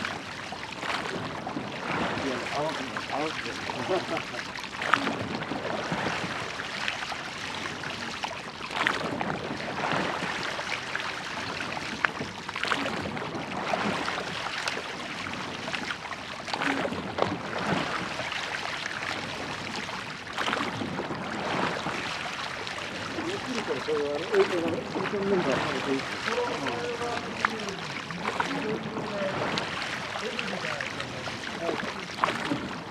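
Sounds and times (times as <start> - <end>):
water splashing from rowing: 0.0 - 32.9.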